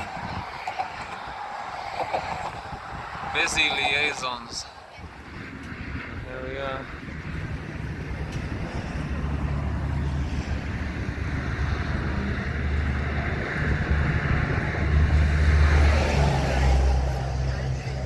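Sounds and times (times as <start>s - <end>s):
highway traffic rumble: 0.0s - 18.0s
wind buffeting microphone: 0.0s - 18.0s.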